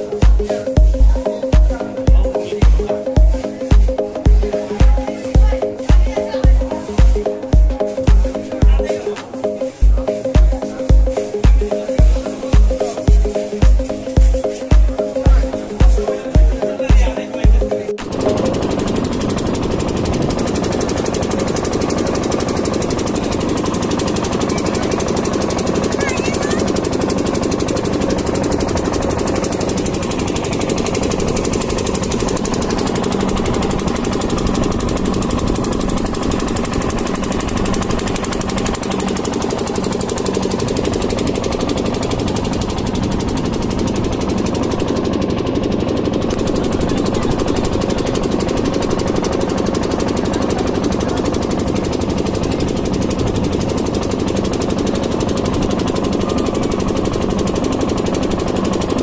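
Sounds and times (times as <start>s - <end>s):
motorboat engine knocking: 0.0s - 59.0s.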